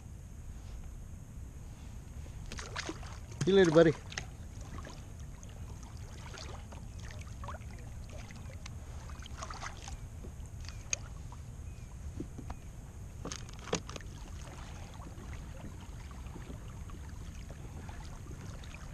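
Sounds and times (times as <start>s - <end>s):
steady low rumble: 0.0s - 18.9s
faint water movement: 1.6s - 18.9s.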